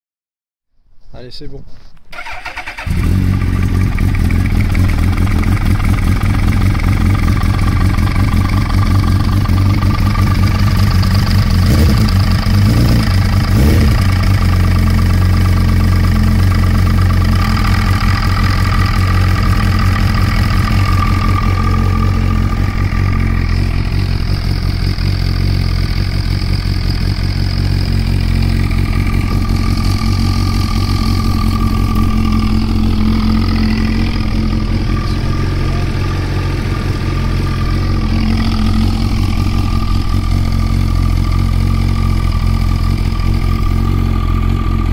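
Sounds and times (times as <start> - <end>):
motorcycle engine starting and idling: 2.1 - 44.9.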